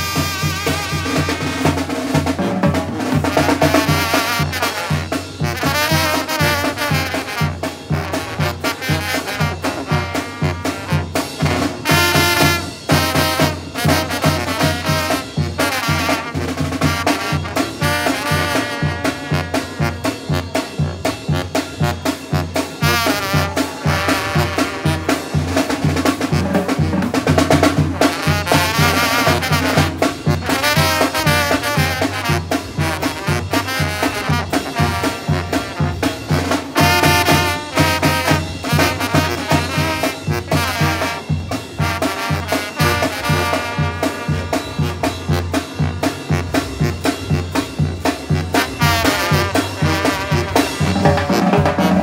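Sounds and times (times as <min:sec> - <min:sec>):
bass drum and snare beat: 0:00.0 - 0:52.0
brass band playing: 0:00.0 - 0:52.0.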